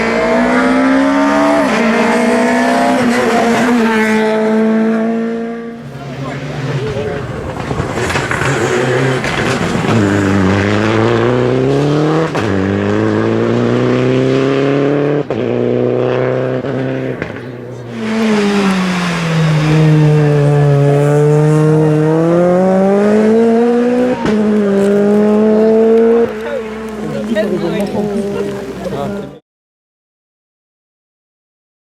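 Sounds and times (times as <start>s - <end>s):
rally car engine at full throttle: 0.0s - 29.4s.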